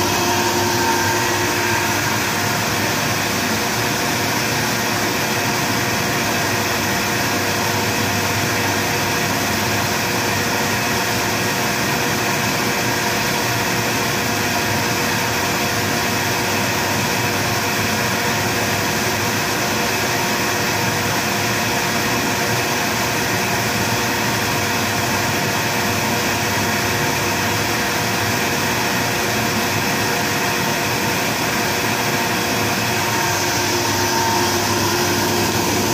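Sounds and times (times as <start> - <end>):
air compressor running: 0.0 - 35.9.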